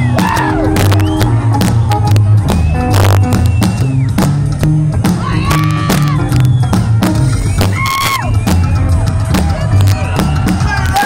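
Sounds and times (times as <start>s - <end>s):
electric guitar with bent notes: 0.0s - 11.0s
slapped upright bass: 0.0s - 11.0s.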